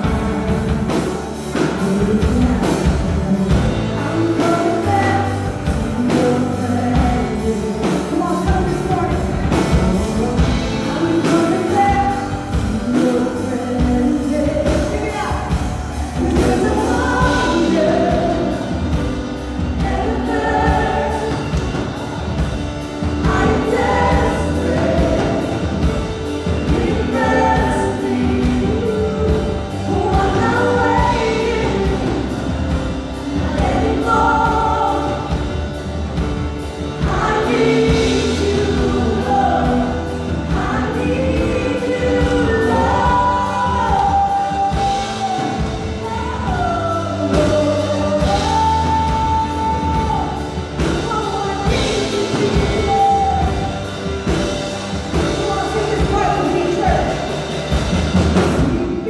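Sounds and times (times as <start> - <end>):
band with drums and bass: 0.0 - 59.0
group singing worship song: 0.0 - 59.0.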